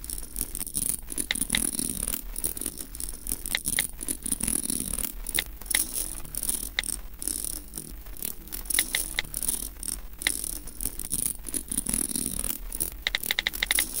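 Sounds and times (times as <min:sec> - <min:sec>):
crackling clicks: 0:00.0 - 0:14.0.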